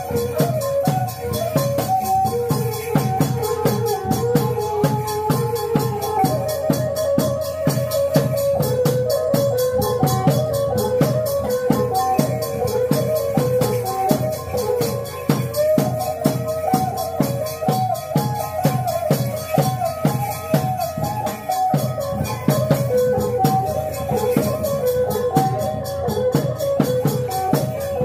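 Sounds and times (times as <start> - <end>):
drums and cymbals beat: 0.0 - 28.0.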